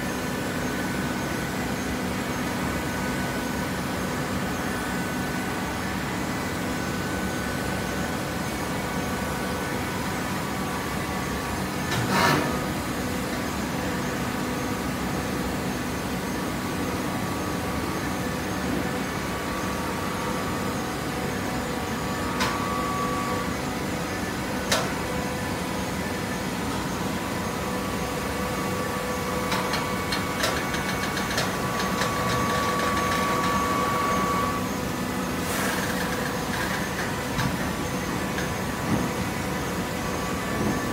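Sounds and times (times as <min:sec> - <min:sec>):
hydraulic baler humming: 0:03.5 - 0:40.9.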